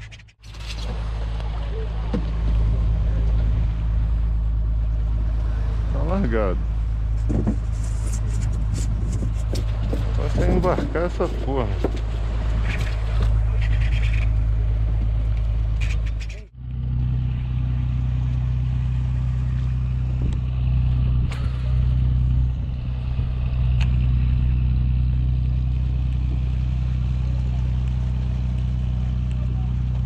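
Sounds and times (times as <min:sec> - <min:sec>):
motorboat engine humming: 0:00.0 - 0:30.0.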